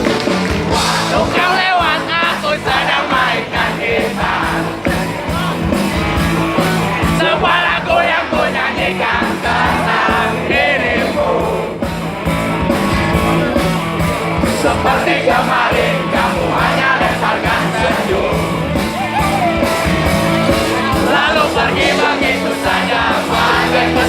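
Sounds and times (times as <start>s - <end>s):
crowd shouting: 0.0s - 24.0s
live rock band playing: 0.0s - 24.0s
singing voices: 0.0s - 24.0s.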